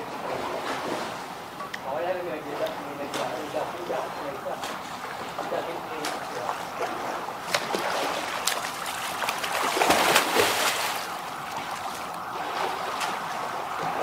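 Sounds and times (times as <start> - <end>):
swimmer splashing in pool: 0.0 - 1.4, 2.4 - 14.0
arms slapping water: 2.5 - 14.0.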